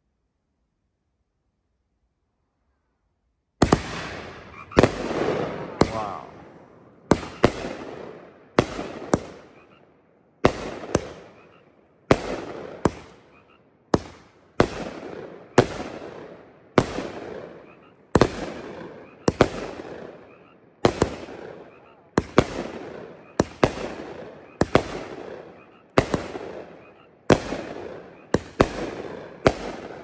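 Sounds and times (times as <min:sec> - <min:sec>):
firework bangs with echo: 0:03.6 - 0:09.7, 0:10.4 - 0:30.0.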